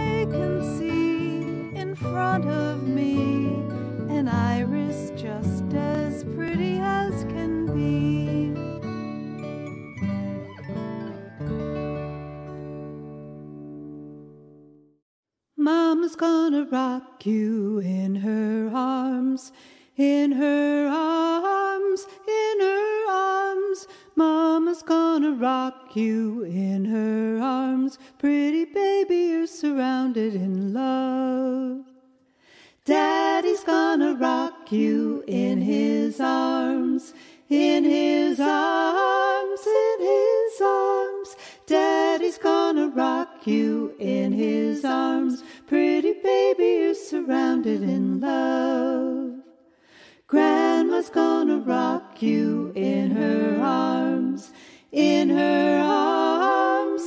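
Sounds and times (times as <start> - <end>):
woman singing unaccompanied: 0.0 - 8.6, 15.6 - 31.9, 32.8 - 49.5, 50.3 - 57.0.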